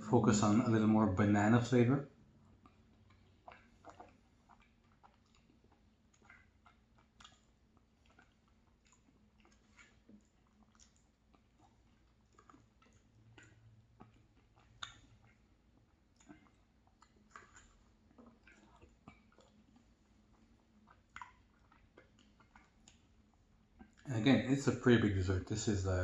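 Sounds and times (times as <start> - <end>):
faint chewing: 0.1 - 26.0.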